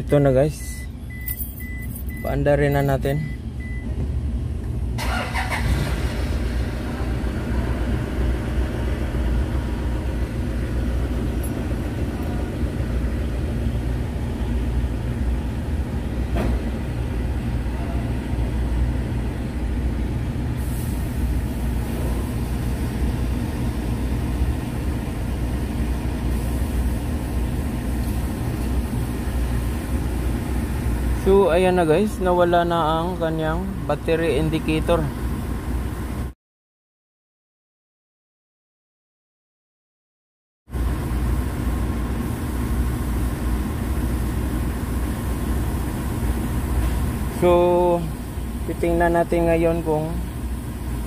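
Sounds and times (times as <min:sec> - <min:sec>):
car engine starting and idling: 0:00.0 - 0:36.3, 0:40.7 - 0:51.0.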